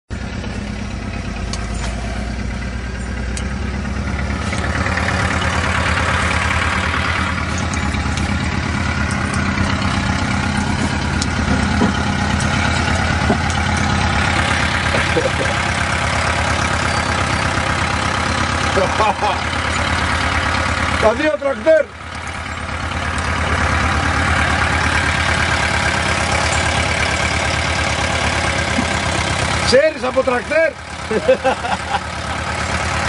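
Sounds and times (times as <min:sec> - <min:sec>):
car engine from inside cabin: 0:00.1 - 0:33.0
tractor engine working: 0:00.1 - 0:33.0.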